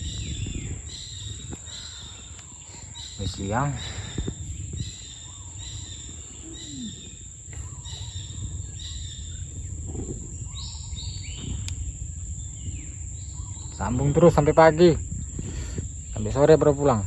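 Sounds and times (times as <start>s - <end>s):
low rumble: 0.0s - 17.0s
wild birds chirping: 0.0s - 17.0s.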